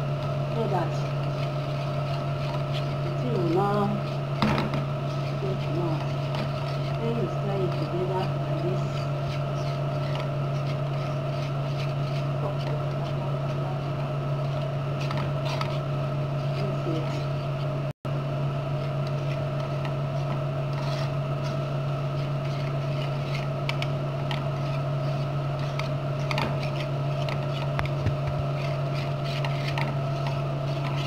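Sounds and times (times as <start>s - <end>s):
utensil scraping frying pan: 0.0s - 17.9s, 18.8s - 31.0s
steady low hum: 0.0s - 31.0s.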